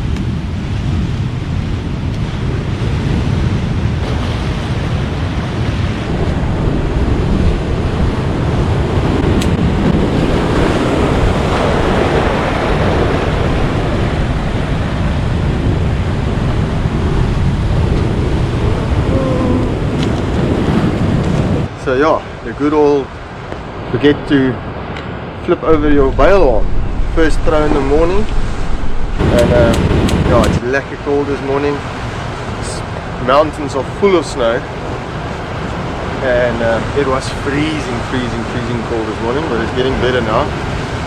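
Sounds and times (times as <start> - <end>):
breaking surf: 0.0 - 41.0
wind buffeting microphone: 0.0 - 41.0.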